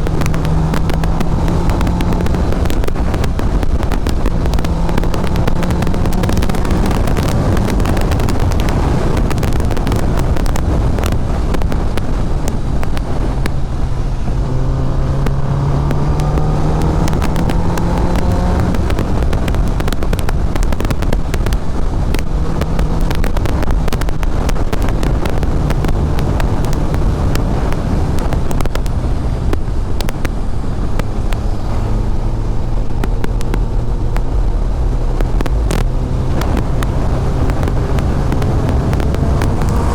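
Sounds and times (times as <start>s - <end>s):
motorcycle engine accelerating: 0.0s - 39.9s
wind buffeting microphone: 0.0s - 39.9s.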